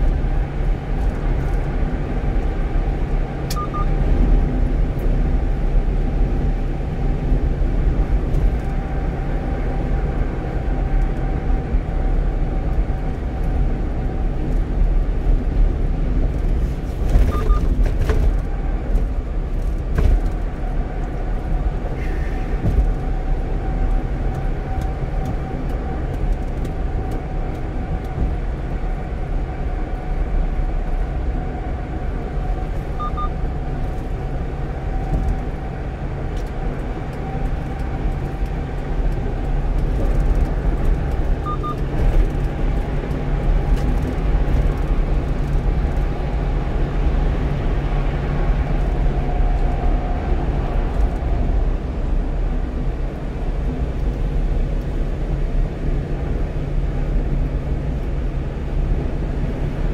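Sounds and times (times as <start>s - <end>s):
truck engine rumble: 0.0s - 59.9s.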